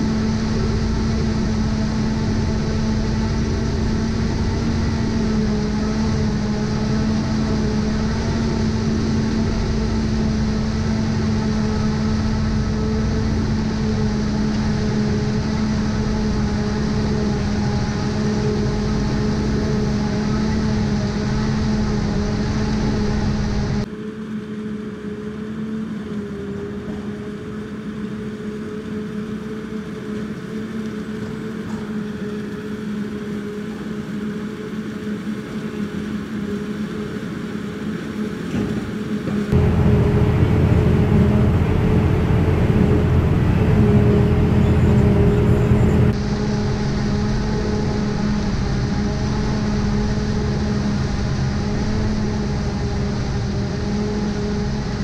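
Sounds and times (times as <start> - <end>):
forage harvester droning: 0.0 - 55.0.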